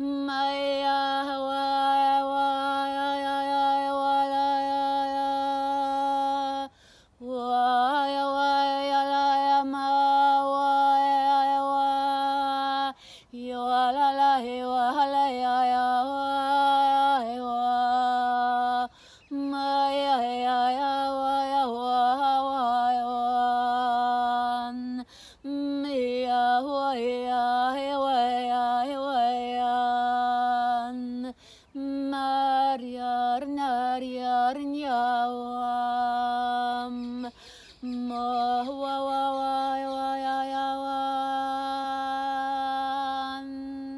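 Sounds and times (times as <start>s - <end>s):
woman singing wordless tones: 0.0s - 43.9s.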